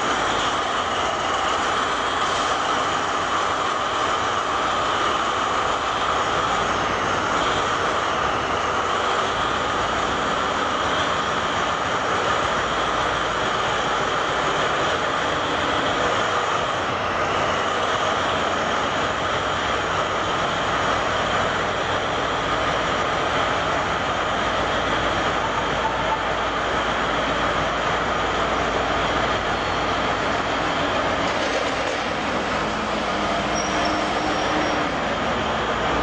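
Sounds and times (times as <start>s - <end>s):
loader engine droning: 0.0s - 36.0s.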